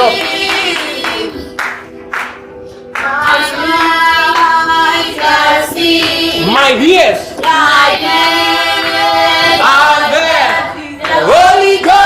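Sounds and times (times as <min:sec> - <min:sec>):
gospel group singing with music: 0:00.0 - 0:12.0.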